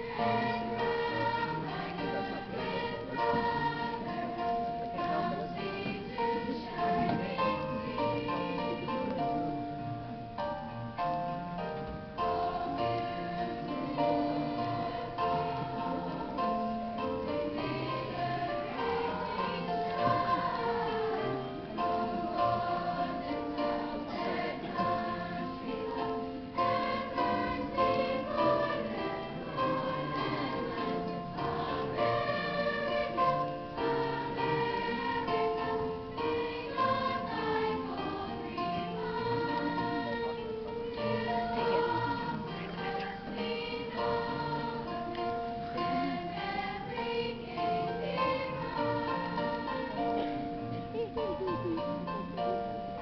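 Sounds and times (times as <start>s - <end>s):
children's choir singing: 0.0s - 53.0s.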